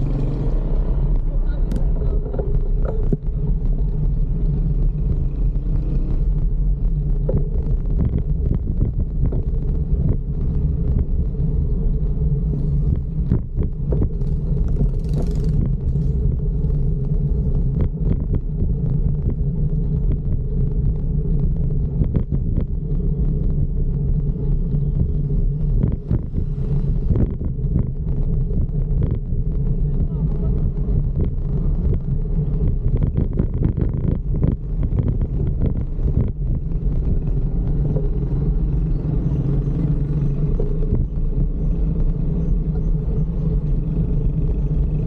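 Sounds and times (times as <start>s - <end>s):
wind and road noise rumble: 0.0s - 45.0s.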